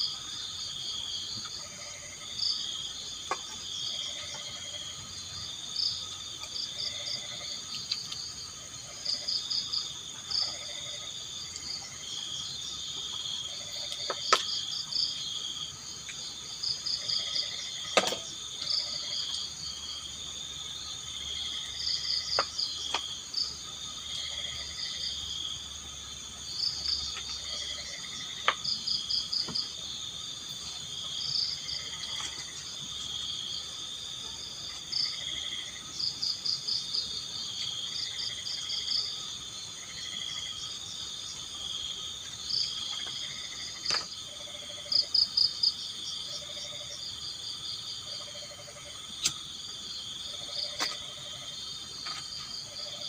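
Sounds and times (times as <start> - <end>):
crickets chirping: 0.0 - 53.0
high insect drone: 0.0 - 53.0.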